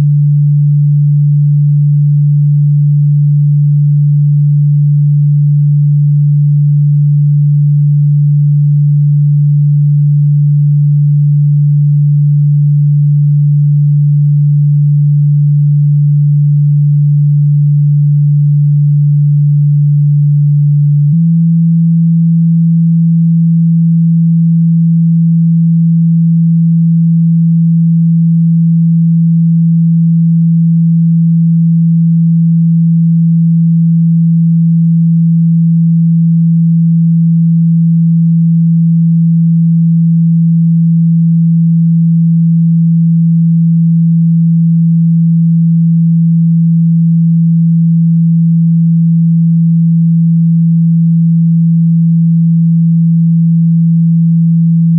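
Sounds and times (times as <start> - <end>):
low sine tone: 0.0 - 54.9.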